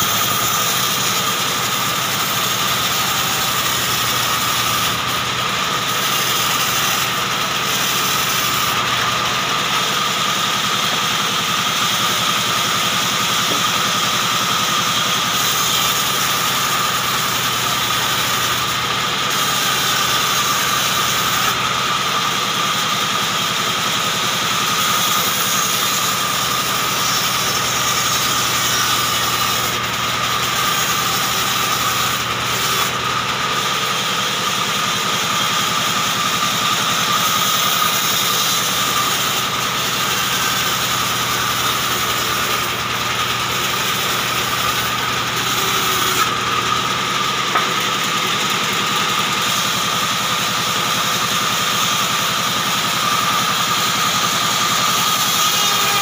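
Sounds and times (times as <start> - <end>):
band saw cutting through log: 0.0 - 56.0.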